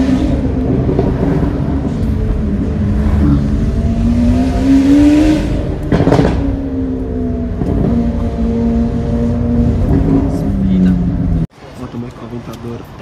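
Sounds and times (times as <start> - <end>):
car engine accelerating: 0.0 - 11.5.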